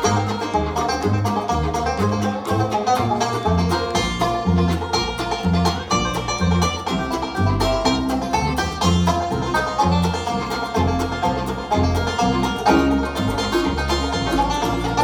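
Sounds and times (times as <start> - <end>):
bass line: 0.0 - 15.0
plucked banjo-like strings: 0.0 - 15.0.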